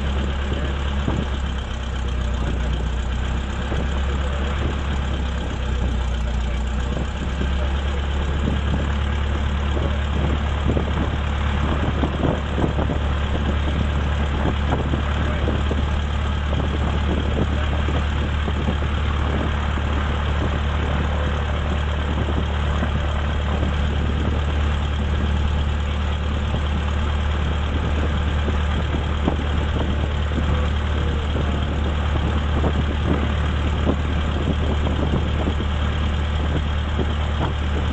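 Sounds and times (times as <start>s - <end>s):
light aircraft engine droning: 0.0s - 37.9s.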